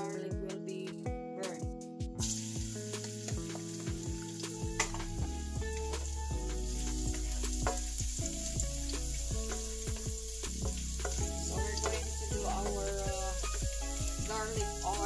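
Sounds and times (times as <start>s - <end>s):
garlic sizzling in oil: 2.2s - 15.0s.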